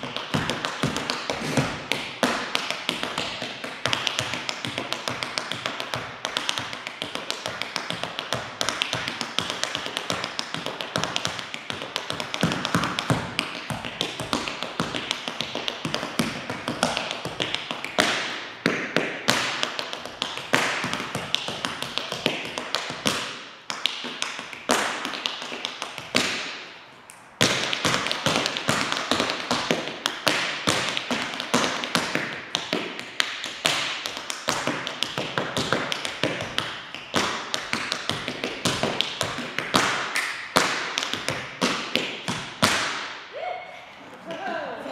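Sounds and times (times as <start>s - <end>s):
tap shoes on hard floor: 0.0s - 26.6s, 27.4s - 43.1s.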